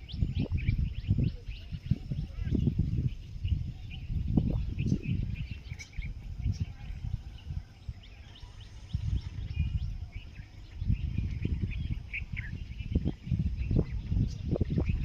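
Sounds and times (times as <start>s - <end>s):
low rumble on microphone: 0.0s - 15.0s
small birds chirping: 0.0s - 15.0s.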